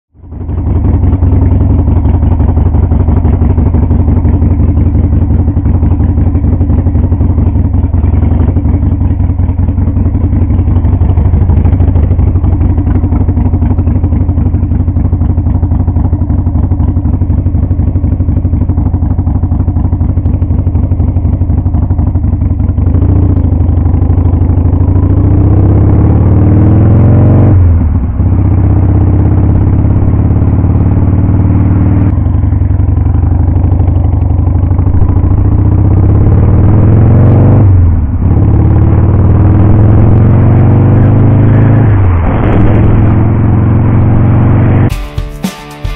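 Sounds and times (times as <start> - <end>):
motorcycle engine revving: 0.2 - 45.9.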